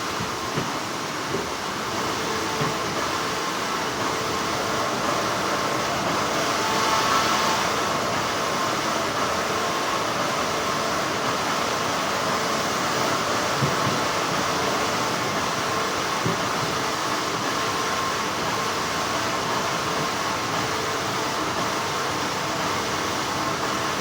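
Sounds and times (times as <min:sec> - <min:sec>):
factory machinery humming: 0:00.0 - 0:24.0.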